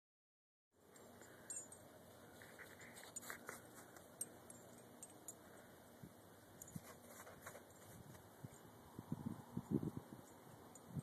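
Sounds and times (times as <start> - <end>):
light metallic clinks: 0.8 - 8.8, 9.6 - 11.0.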